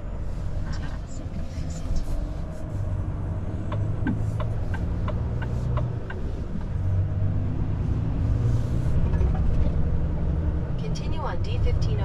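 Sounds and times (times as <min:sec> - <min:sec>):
truck diesel engine humming: 0:00.0 - 0:12.0.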